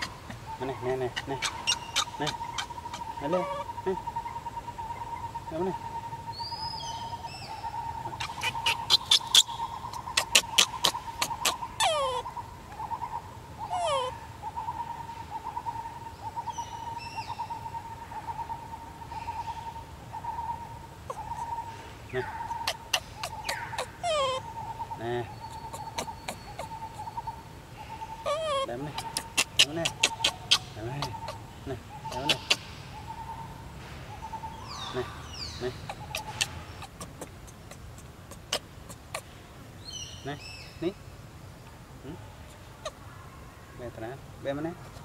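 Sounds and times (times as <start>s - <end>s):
wavering animal call: 0.0s - 18.7s, 19.5s - 40.9s.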